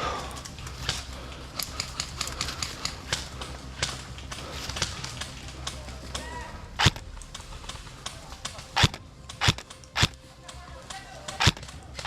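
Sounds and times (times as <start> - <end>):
footsteps: 0.0 - 12.0
loud sharp crack: 0.0 - 12.0
low rumble: 0.0 - 12.0
gear knocking and rattling: 0.1 - 12.0.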